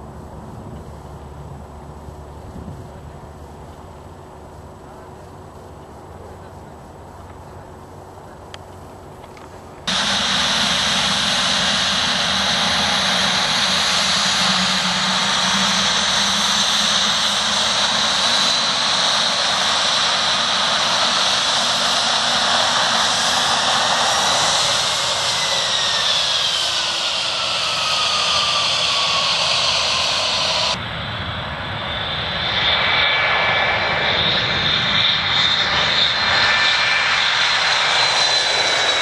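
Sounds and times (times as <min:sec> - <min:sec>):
jet engines rushing and whining: 0:00.0 - 0:39.0.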